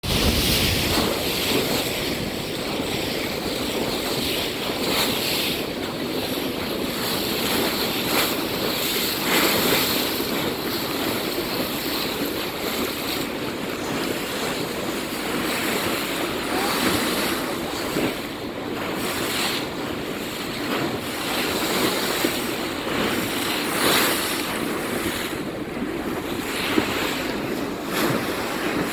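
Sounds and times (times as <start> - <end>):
sea waves: 0.0 - 28.9
wind: 0.0 - 28.9
wind buffeting microphone: 0.0 - 28.9.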